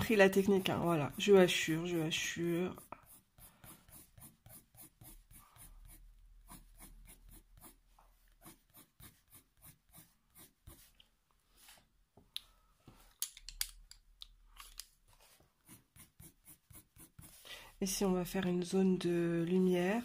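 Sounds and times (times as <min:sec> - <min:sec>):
coloured pencil hatching on paper: 0:00.0 - 0:11.1, 0:14.7 - 0:20.0.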